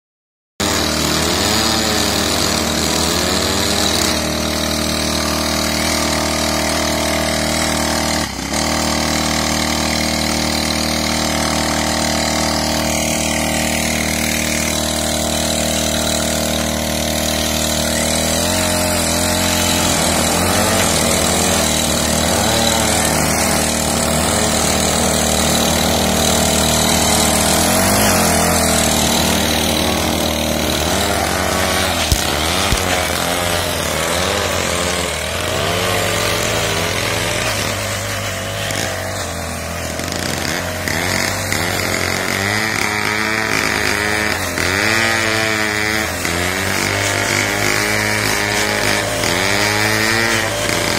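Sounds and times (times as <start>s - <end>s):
small engine running steadily: 0.6s - 50.9s
tiller head digging soil: 0.6s - 50.9s.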